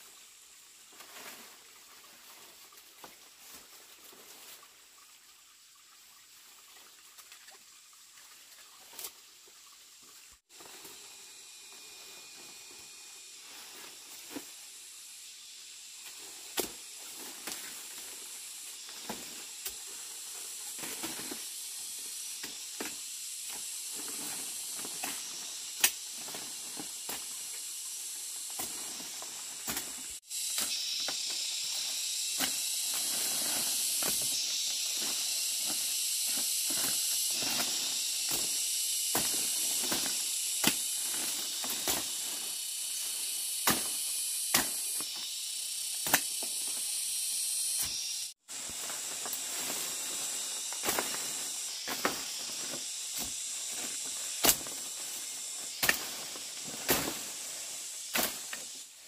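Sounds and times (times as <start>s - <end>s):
high-pitched hiss: 0.0s - 59.0s
dry leaves and twigs crunching: 10.5s - 59.0s.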